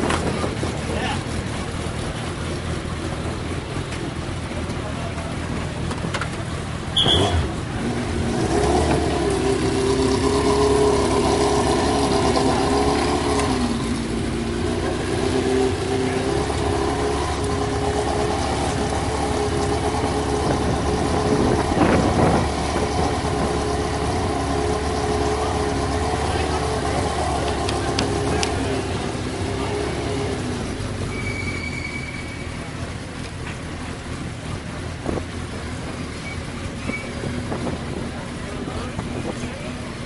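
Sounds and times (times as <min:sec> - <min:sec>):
race car engine idling: 0:00.0 - 0:40.0.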